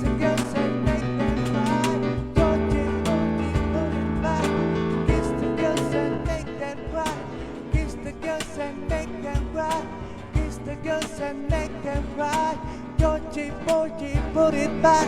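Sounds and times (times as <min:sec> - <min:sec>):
percussion hits: 0:00.0 - 0:14.7
acoustic guitar: 0:00.0 - 0:15.0
steady bass line: 0:00.0 - 0:15.0.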